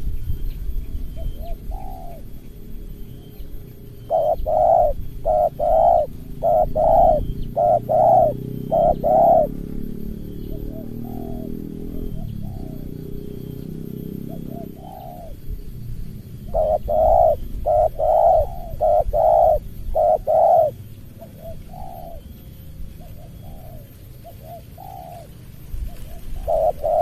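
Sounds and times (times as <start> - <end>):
low background noise: 0.0 - 27.0
dove cooing: 0.9 - 27.0.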